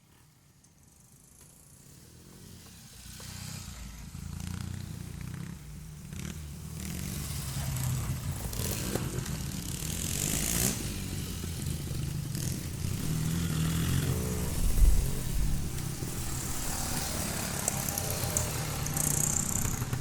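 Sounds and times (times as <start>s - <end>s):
motorcycle engine at low revs: 1.4s - 20.0s.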